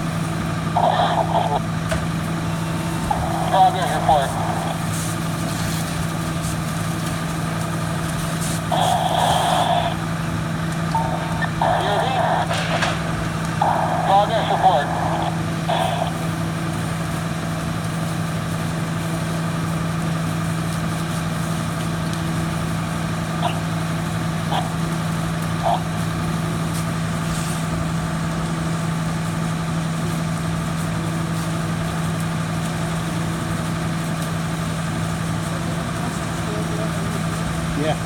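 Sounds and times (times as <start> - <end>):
fire engine humming: 0.0 - 38.0.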